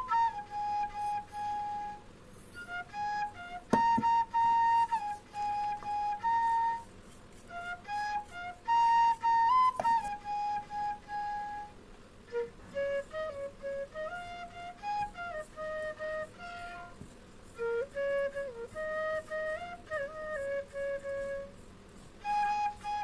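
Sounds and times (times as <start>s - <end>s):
solo flute melody: 0.0s - 23.0s.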